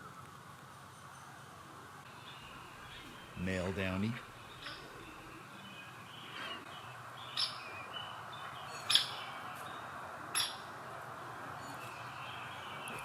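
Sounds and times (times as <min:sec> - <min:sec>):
faint wavering bird chirps: 0:00.9 - 0:13.0.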